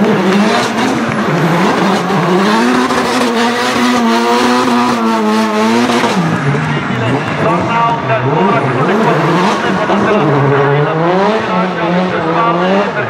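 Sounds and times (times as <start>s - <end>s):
car engine at high revs: 0.0s - 13.0s
spinning tyres: 0.0s - 13.0s.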